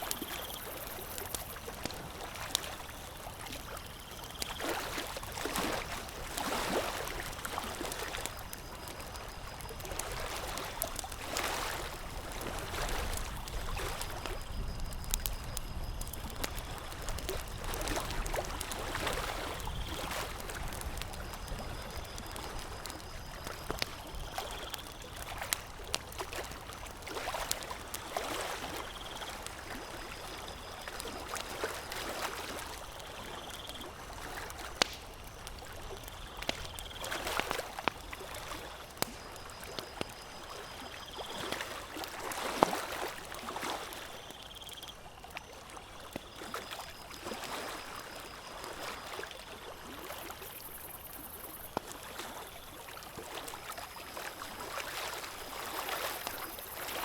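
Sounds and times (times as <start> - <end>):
campfire crackling and popping: 0.0 - 43.6, 49.6 - 57.0
water lapping at shore: 0.0 - 57.0.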